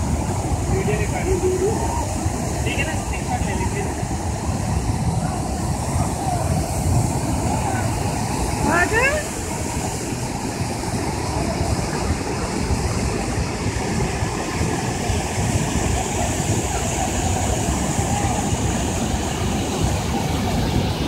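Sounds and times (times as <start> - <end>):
river water rushing over rocks: 0.0 - 21.0.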